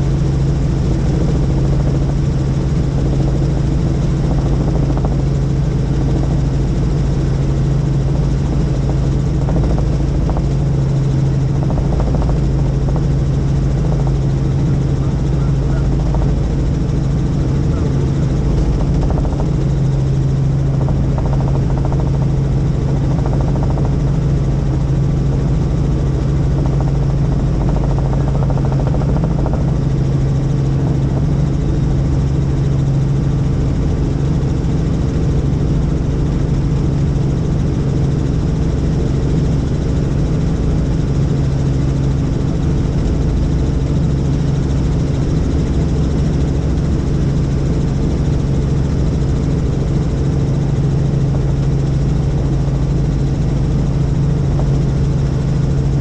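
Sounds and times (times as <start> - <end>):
helicopter rotor and turbine drone: 0.0 - 56.0.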